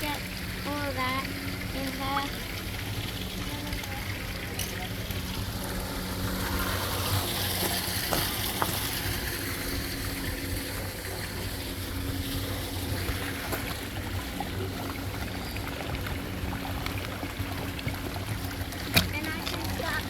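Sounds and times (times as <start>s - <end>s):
low steady hum: 0.0s - 20.0s
water running through sluice: 0.0s - 20.0s.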